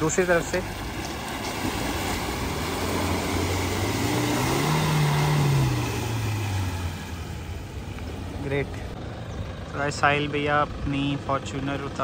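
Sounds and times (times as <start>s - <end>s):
suv engine revving: 0.4s - 10.3s.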